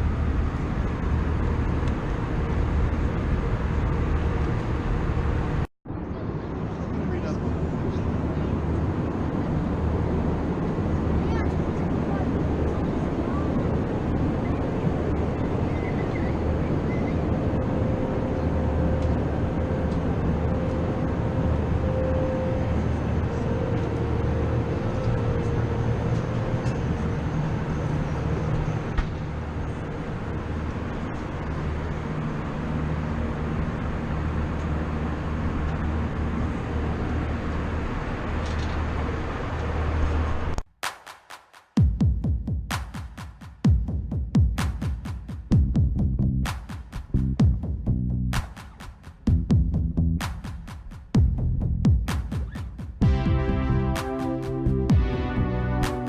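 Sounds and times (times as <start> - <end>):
airplane cabin engine drone: 0.0 - 40.6, 45.5 - 56.0.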